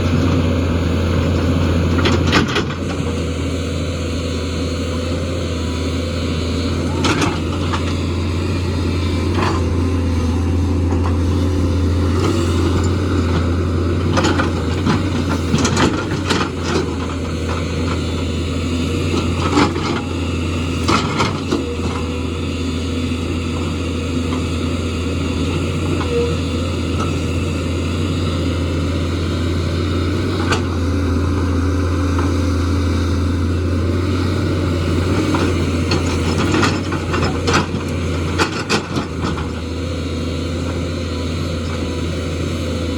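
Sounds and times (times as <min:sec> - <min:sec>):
excavator diesel engine droning: 0:00.0 - 0:42.9.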